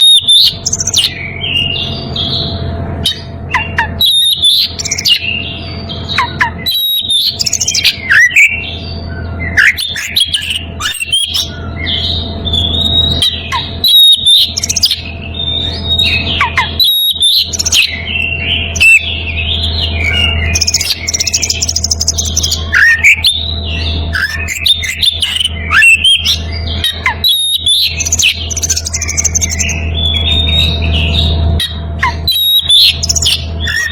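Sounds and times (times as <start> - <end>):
bird singing whistles and chirps: 0.0 - 33.9
steady low hum: 0.0 - 33.9.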